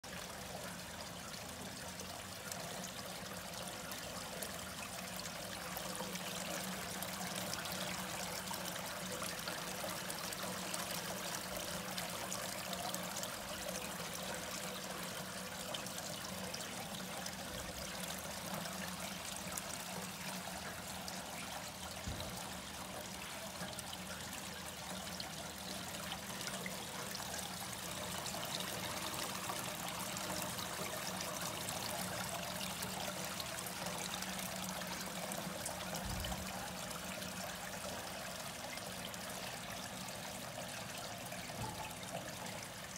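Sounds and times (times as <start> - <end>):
fountain water trickling and splashing: 0.0 - 42.9.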